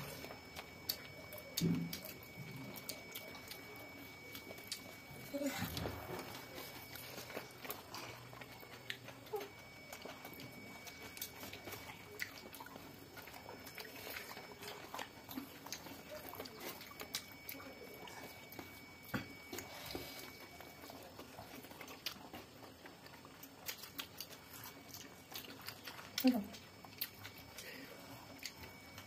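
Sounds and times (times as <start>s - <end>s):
chewing and mouth noises: 0.0s - 29.0s.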